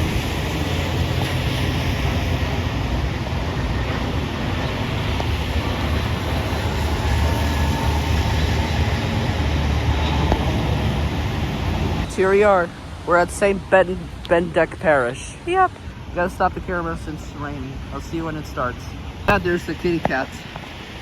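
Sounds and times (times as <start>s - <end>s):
traffic on a wet road: 0.0s - 21.0s.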